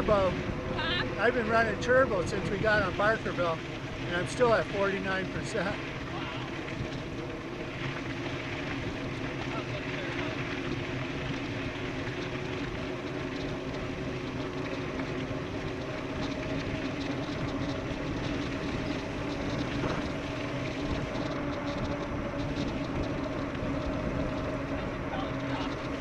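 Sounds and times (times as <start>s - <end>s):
bike tyres humming: 0.0s - 26.0s.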